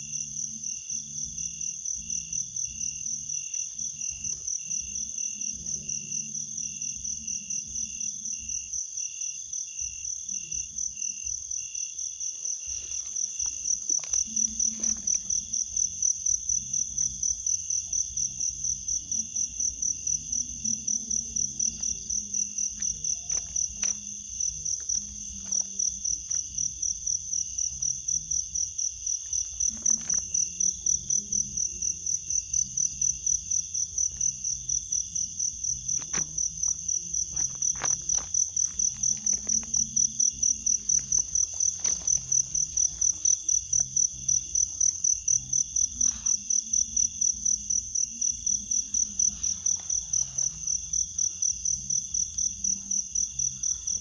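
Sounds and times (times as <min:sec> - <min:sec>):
crickets trilling: 0:00.0 - 0:54.0
slower low pulsing insect call: 0:00.0 - 0:54.0.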